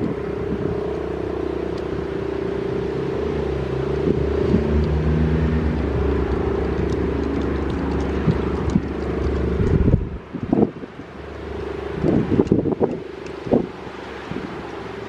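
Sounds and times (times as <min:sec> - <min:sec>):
wind gusting on microphone: 0:00.0 - 0:15.0.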